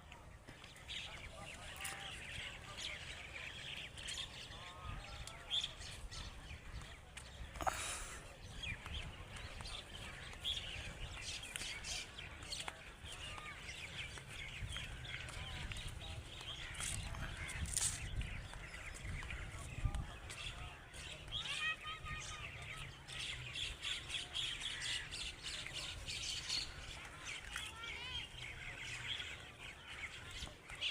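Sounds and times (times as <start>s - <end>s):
birds chirping and whistling: 0.6s - 30.9s.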